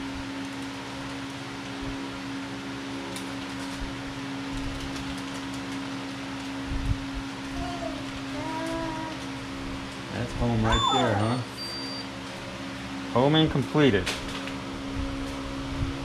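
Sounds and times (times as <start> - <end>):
printer motors and fan humming: 0.0 - 16.0.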